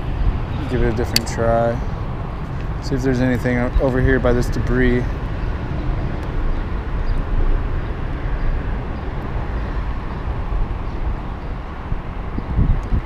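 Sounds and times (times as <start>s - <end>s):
freeway traffic rumble: 0.0s - 13.0s.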